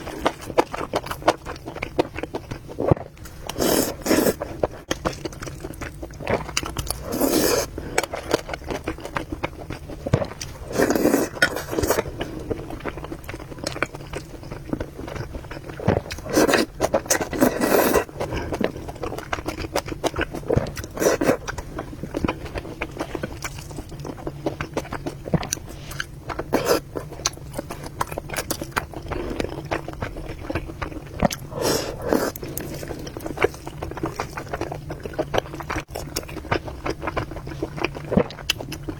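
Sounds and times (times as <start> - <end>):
chewing and slurping noodles: 0.0 - 38.9.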